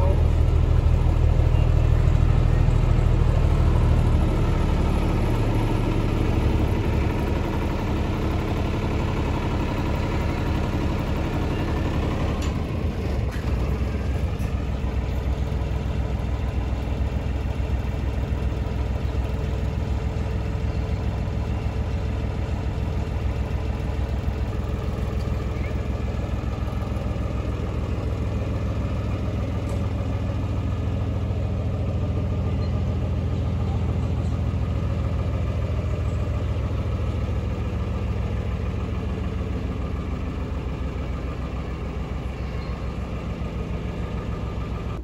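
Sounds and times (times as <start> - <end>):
miniature locomotive engine idling: 0.0 - 45.0.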